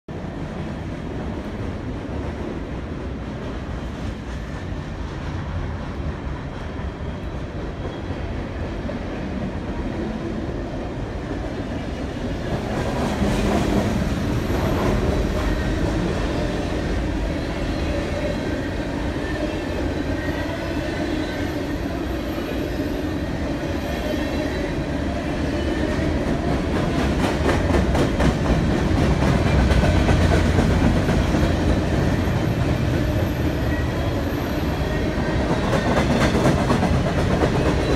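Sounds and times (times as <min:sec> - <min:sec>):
freight train rumbling past: 0:00.1 - 0:37.9.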